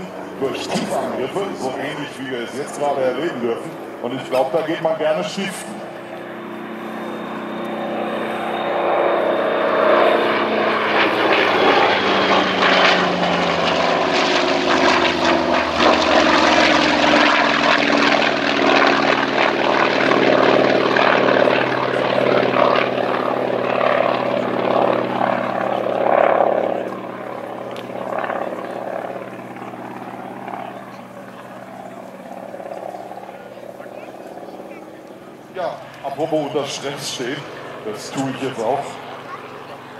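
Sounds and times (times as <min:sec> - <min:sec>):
propeller aircraft engine passing: 0:00.0 - 0:39.9.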